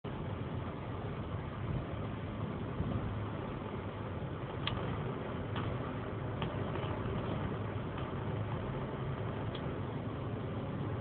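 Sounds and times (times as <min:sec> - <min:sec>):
road noise: 0:00.0 - 0:11.0
car engine cruising: 0:00.1 - 0:11.0.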